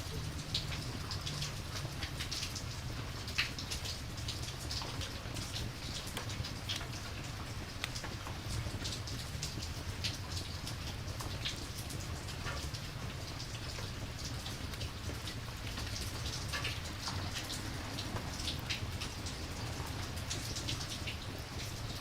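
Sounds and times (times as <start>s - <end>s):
raindrop ticks: 0.0s - 22.0s
steady rain hiss: 0.0s - 22.0s.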